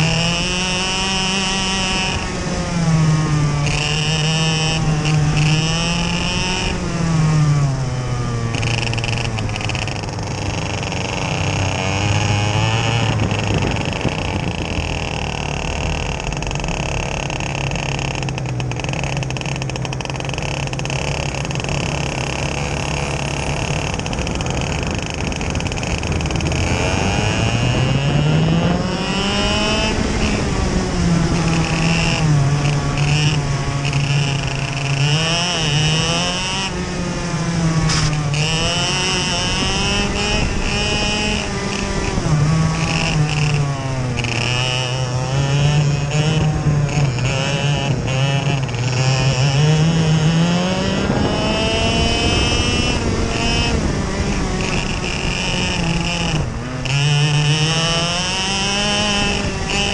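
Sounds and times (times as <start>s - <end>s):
kart engine at race pace: 0.0s - 59.9s
other kart engines: 0.0s - 59.9s.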